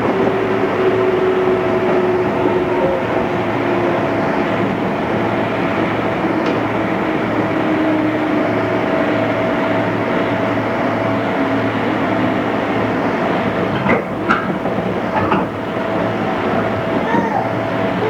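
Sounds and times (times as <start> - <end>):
electric train motor whine: 0.0 - 18.0
wheel and rail noise: 0.0 - 18.0.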